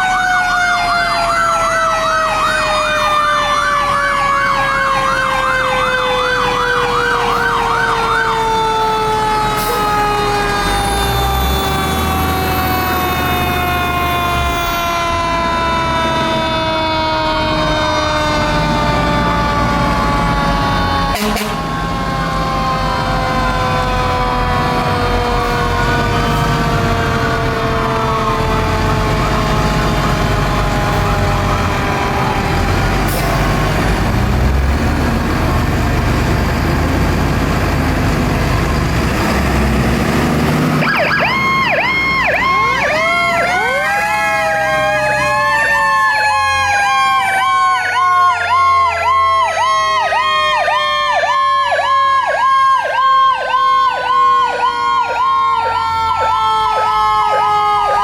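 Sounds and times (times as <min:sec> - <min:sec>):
electronic siren yelping: 0:00.0 - 0:33.2, 0:40.8 - 0:58.0
mechanical siren wailing: 0:00.0 - 0:39.6, 0:40.6 - 0:58.0
fire truck engine rumble: 0:00.0 - 0:58.0.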